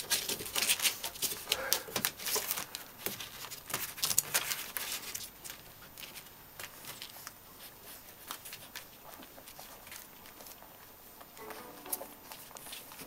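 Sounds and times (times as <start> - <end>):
puppies nursing clicks and rustles: 0.0 - 11.4, 12.2 - 13.0.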